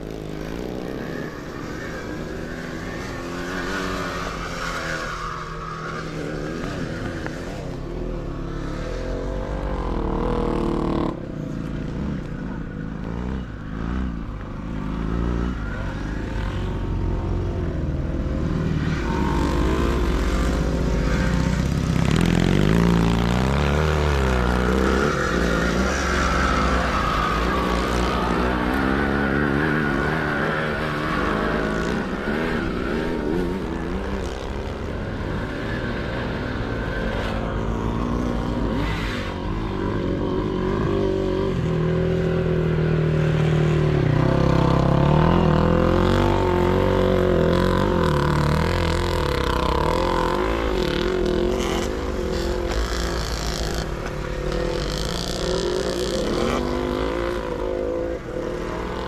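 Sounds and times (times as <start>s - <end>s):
motocross motorcycles revving: 0.0s - 59.0s.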